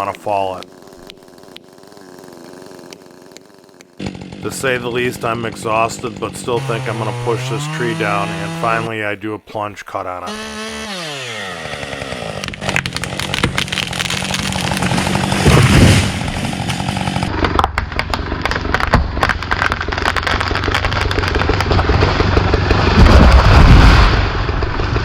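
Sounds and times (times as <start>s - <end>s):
chainsaw cutting: 0.0s - 9.1s, 10.2s - 25.0s.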